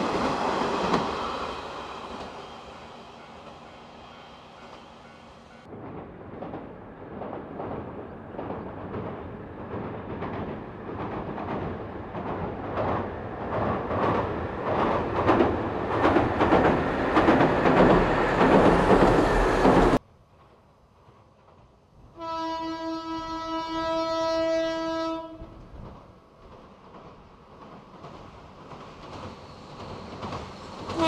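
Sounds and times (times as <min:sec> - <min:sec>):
train rumble with wheel clatter: 0:00.0 - 0:31.0.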